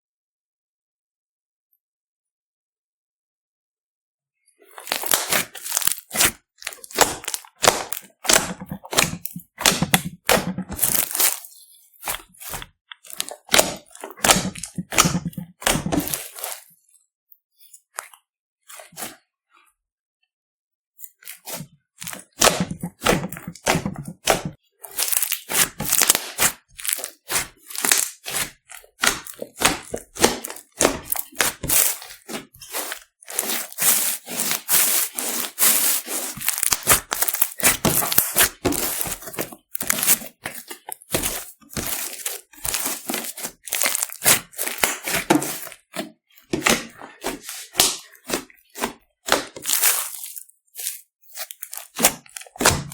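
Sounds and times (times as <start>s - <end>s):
slime crackling and popping: 4.8s - 16.6s, 21.5s - 46.0s, 46.6s - 52.9s.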